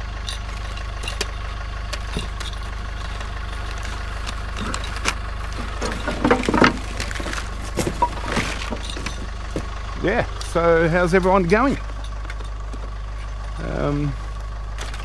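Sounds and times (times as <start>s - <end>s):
vehicle engine idling: 0.0s - 15.0s
clattering: 0.2s - 10.7s, 11.5s - 13.6s.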